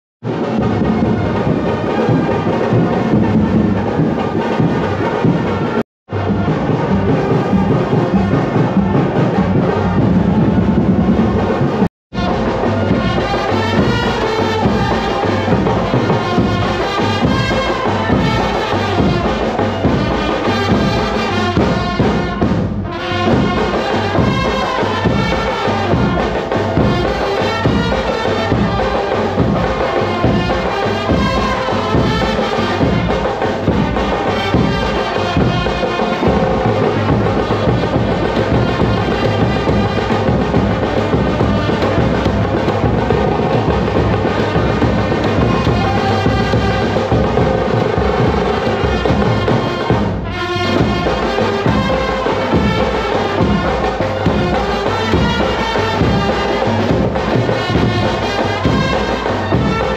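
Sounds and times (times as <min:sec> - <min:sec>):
bass drum and side drums: 0:00.2 - 0:59.9
trumpets and saxophones melody: 0:00.2 - 0:59.9.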